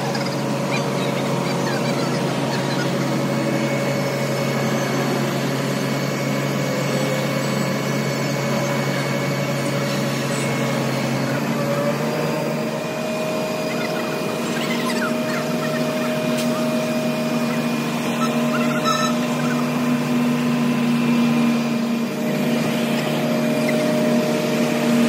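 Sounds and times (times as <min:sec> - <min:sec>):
engine humming steadily: 0:00.0 - 0:25.0.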